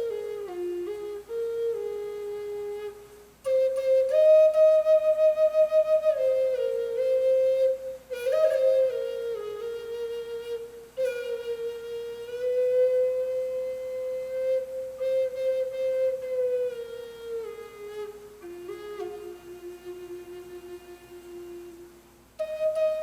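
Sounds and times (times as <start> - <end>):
wooden flute slow melody: 0.0 - 23.0.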